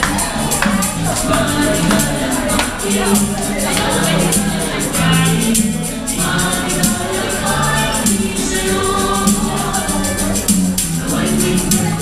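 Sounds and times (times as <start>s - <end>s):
steady beat: 0.0s - 12.0s
tambourine-like hits: 0.0s - 12.0s
voices singing together: 0.0s - 12.0s.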